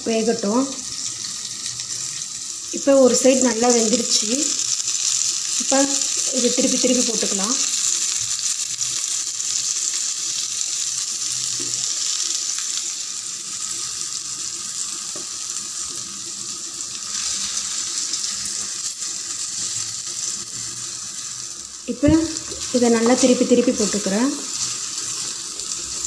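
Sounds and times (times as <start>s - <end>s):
okra sizzling in oil: 0.0s - 26.0s.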